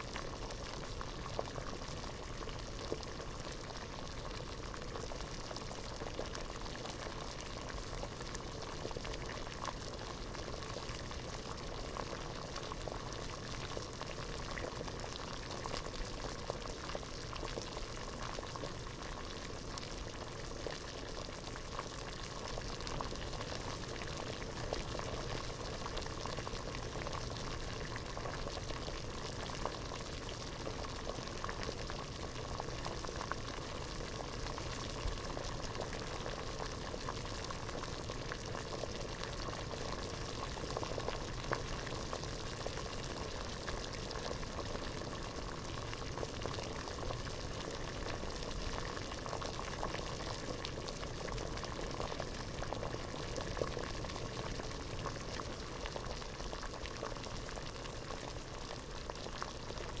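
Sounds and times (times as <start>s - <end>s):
water boiling in a pot: 0.0s - 60.0s.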